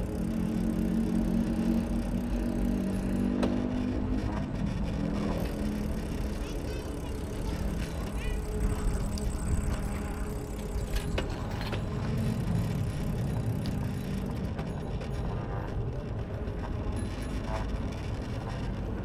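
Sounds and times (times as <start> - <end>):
wind and road noise rumble: 0.0 - 19.0.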